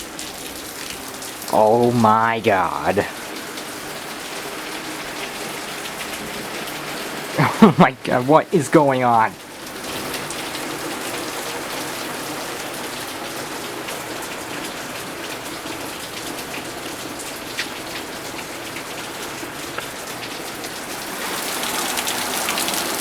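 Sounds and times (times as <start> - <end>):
torrential rain pouring: 0.0 - 23.0.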